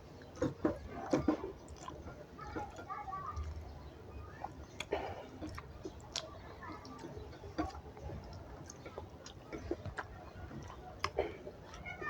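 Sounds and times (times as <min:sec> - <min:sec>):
mouth chewing food: 0:00.0 - 0:12.0.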